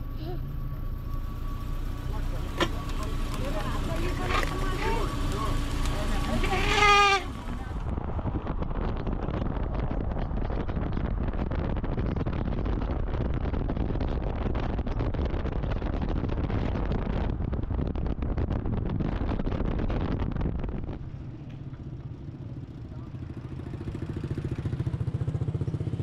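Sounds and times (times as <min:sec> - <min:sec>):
vehicle engine running: 0:00.0 - 0:26.0
wind rumbling on microphone: 0:01.0 - 0:26.0.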